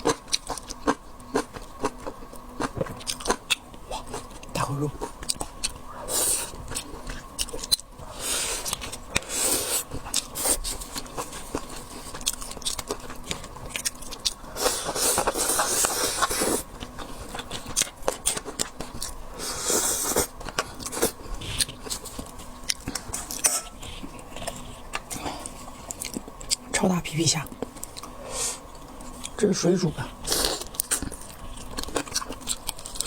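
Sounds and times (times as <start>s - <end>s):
biting and crunching seafood: 0.0s - 26.7s, 30.1s - 33.0s.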